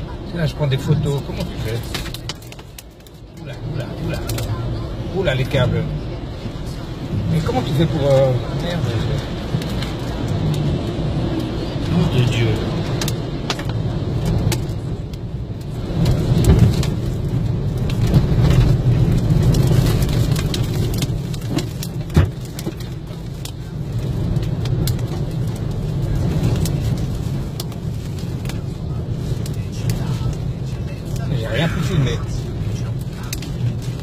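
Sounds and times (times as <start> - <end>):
rain and debris hitting car: 0.0 - 34.0
wind buffeting a car: 0.0 - 34.0.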